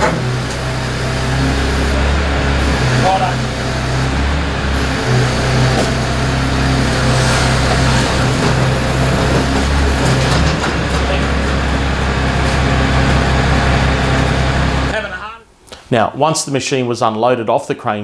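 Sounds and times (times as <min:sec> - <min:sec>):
truck engine running: 0:00.0 - 0:15.2.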